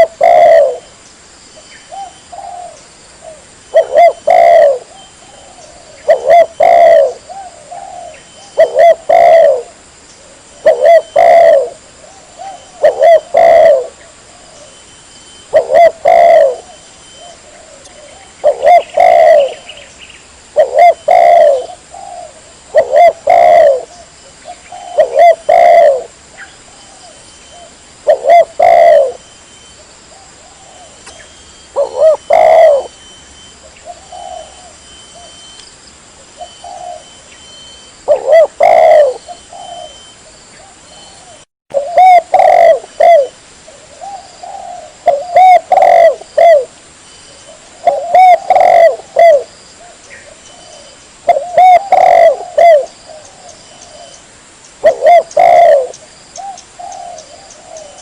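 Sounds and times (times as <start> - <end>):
dove cooing: 0.0 - 0.9, 1.9 - 19.9, 20.5 - 29.3, 30.1 - 35.6, 36.2 - 54.2, 54.8 - 58.0.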